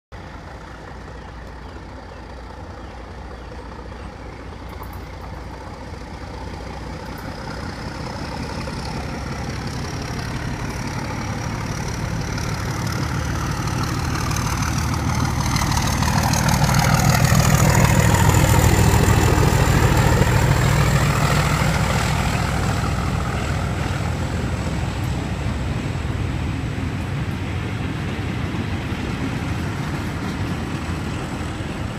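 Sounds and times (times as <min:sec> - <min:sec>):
diesel locomotive engine throb: 0:00.2 - 0:31.9
wheels on rails: 0:00.2 - 0:31.9.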